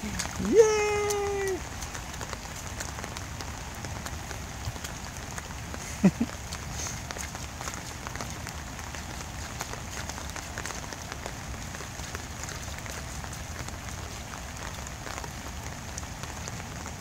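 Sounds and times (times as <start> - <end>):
light rain on wet pavement: 0.0 - 17.0
water dripping and splashing: 0.0 - 17.0.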